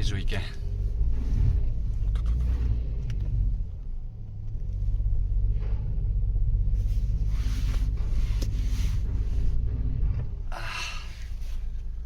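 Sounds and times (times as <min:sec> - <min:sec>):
car engine rumbling on snow: 0:00.0 - 0:12.0.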